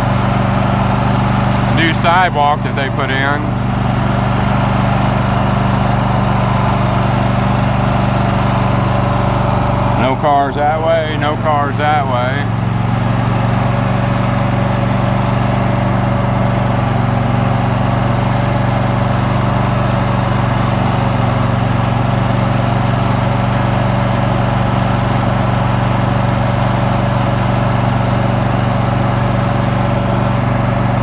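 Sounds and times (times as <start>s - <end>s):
riding lawn mower engine droning: 0.0s - 31.0s.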